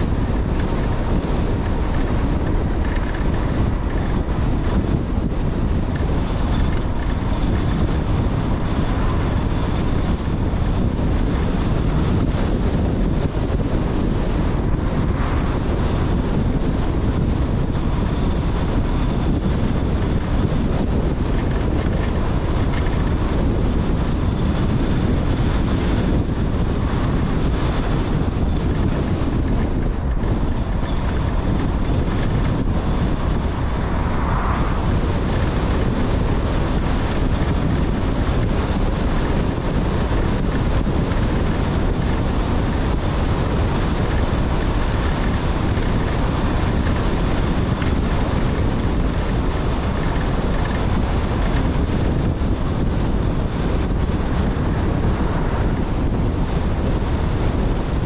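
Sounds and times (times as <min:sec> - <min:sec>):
tyre and road noise: 0:00.0 - 0:58.0
wind buffeting microphone: 0:00.0 - 0:58.0.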